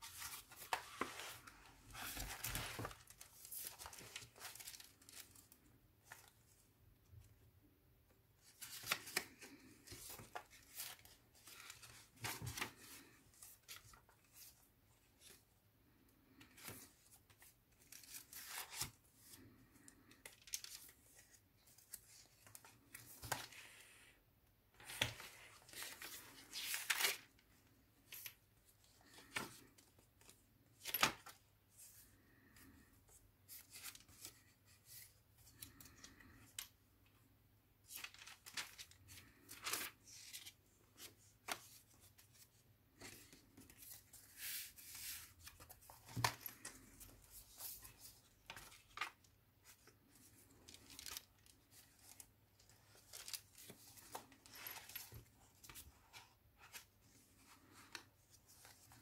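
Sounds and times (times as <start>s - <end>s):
paper pages rustling: 0.0s - 6.4s, 8.4s - 15.4s, 16.3s - 23.9s, 24.8s - 27.4s, 28.0s - 32.8s, 37.8s - 59.0s.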